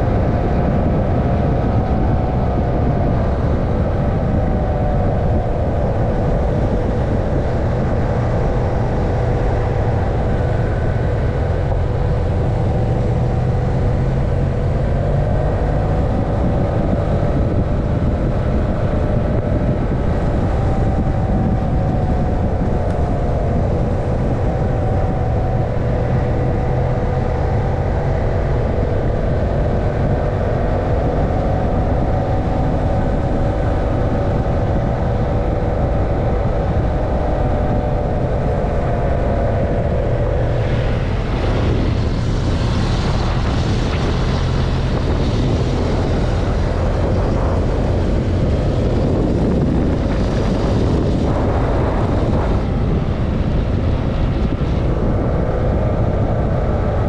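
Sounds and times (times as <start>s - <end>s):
road noise: 0.0s - 57.0s
wind rushing: 0.0s - 57.0s.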